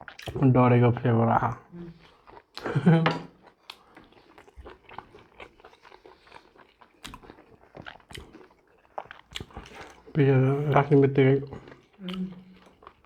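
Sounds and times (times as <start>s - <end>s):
chewing crunchy food: 0.0s - 13.0s.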